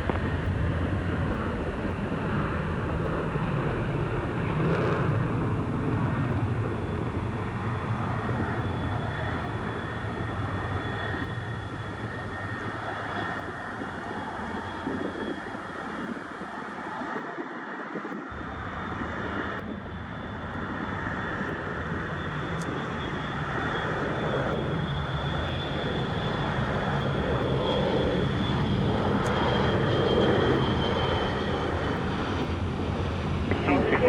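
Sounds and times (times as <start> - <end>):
jet engines rumbling and whining: 0.0 - 34.0.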